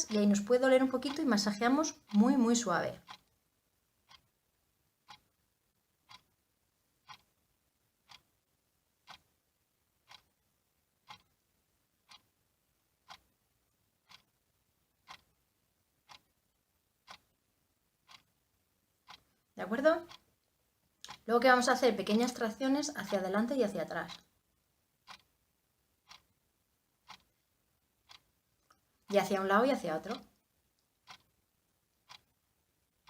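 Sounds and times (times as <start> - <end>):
faint clock ticking: 0.0 - 33.0.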